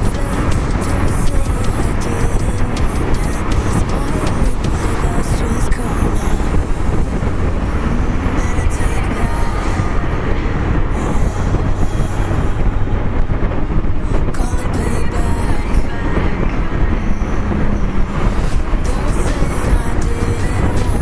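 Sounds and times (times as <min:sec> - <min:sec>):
motorcycle engine drone: 0:00.0 - 0:21.0
road and wind noise: 0:00.0 - 0:21.0.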